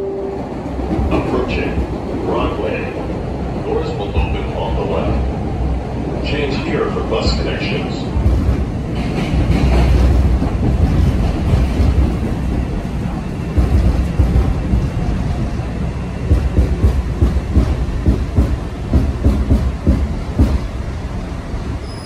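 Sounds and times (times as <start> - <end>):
train clacks and knocks: 0.0 - 22.0
wheels rumbling on rail: 0.0 - 22.0.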